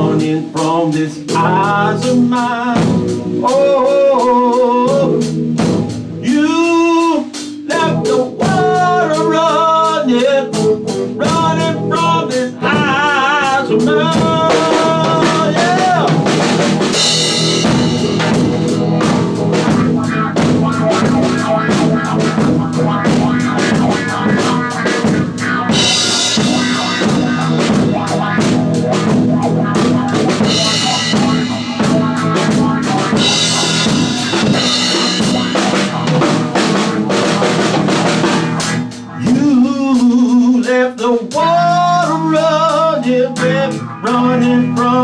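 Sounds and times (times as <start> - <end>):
band playing soul music: 0.0 - 45.0.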